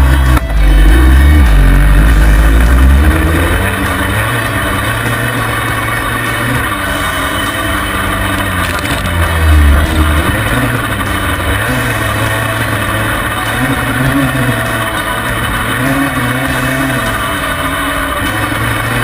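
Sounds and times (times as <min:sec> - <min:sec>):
two-stroke quad engine revving: 0:00.0 - 0:19.0.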